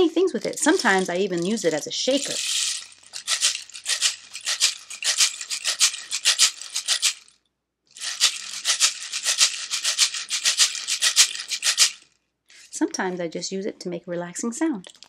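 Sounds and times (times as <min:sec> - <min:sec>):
rain stick rattling: 0:00.0 - 0:12.7.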